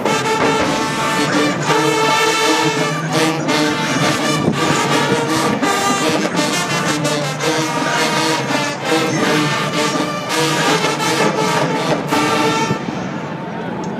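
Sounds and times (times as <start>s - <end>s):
marching band brass: 0.0s - 13.4s.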